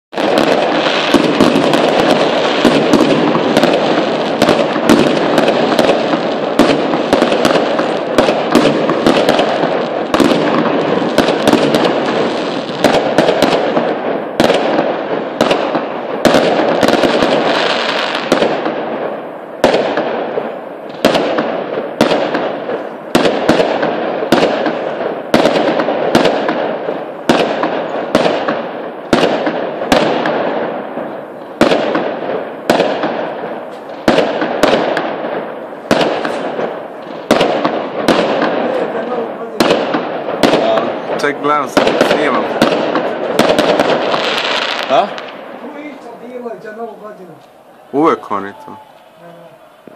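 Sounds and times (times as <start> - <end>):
fireworks bangs and crackling: 0.1 - 49.9.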